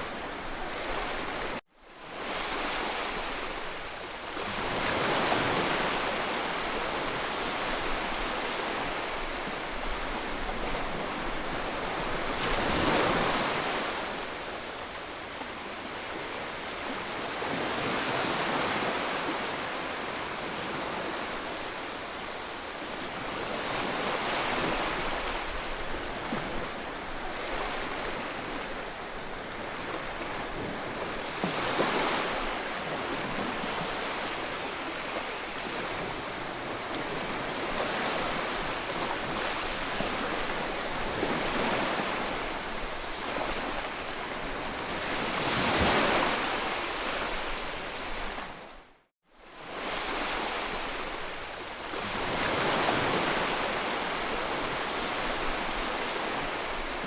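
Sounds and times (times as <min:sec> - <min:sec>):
sea waves breaking ashore: 0:00.0 - 0:48.8, 0:49.6 - 0:57.0.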